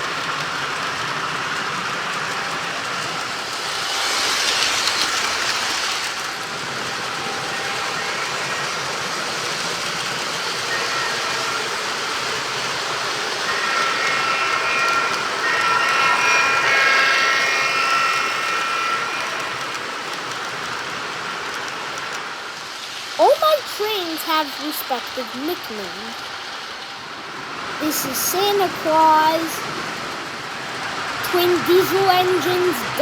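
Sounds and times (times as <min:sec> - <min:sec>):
model train wheels rattling: 0:00.0 - 0:26.9.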